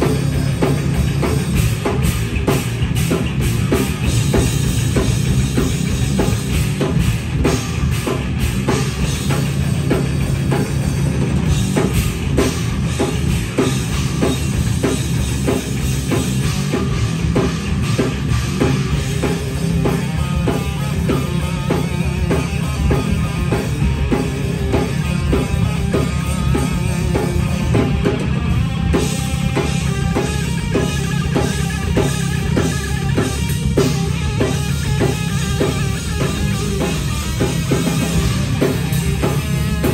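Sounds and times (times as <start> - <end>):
distorted electric guitars: 0.0 - 39.9
heavy metal band playing: 0.0 - 39.9
pounding bass drum: 0.0 - 39.9.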